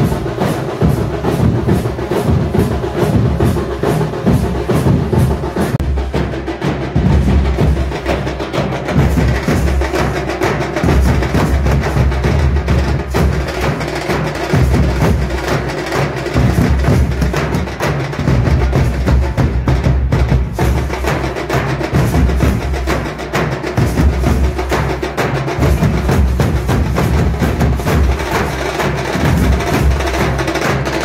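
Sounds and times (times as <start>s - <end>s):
barrel drums beaten with sticks: 0.0s - 31.0s.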